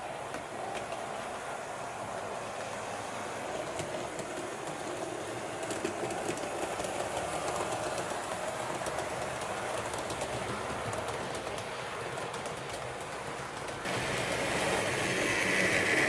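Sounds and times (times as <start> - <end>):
train rolling on track: 0.0 - 16.0
wheels clicking over rail joints: 2.2 - 16.0.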